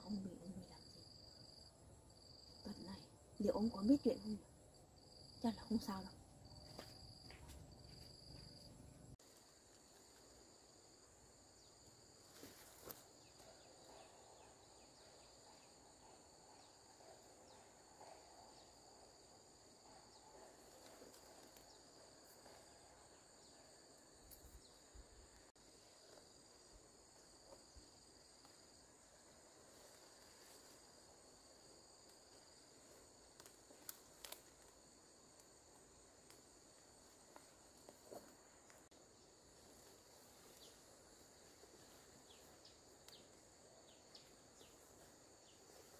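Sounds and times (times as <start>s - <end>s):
insect lower intermittent trill: 0.0s - 45.9s.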